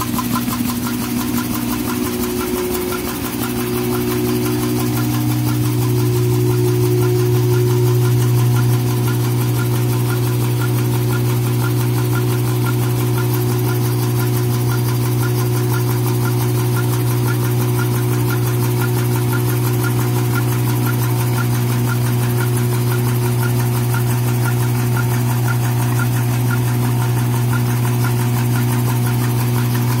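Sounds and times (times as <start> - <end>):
machine humming: 0.0 - 30.0.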